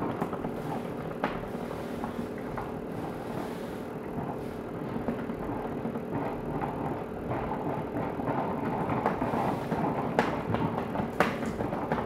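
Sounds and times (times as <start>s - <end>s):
garment steamer running: 0.0s - 12.0s.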